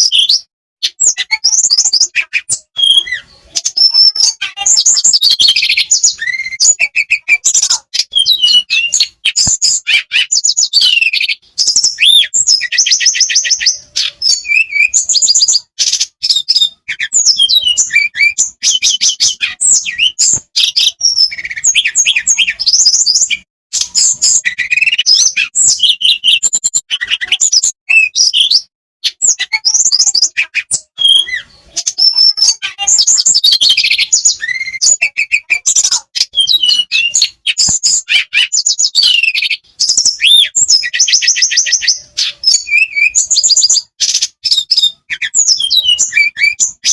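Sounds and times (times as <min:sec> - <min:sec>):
songbird trilling and chattering: 0:00.0 - 0:46.9.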